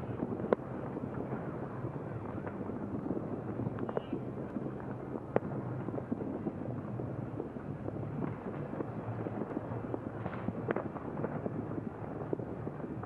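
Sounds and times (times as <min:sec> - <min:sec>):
distant fireworks crackling and popping: 0:00.0 - 0:13.0
steady low rumble: 0:00.0 - 0:13.0.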